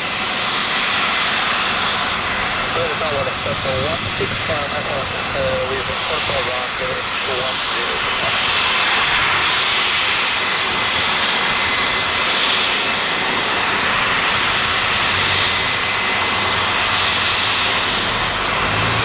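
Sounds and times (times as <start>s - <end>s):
jet engines whining at taxi: 0.0s - 19.0s.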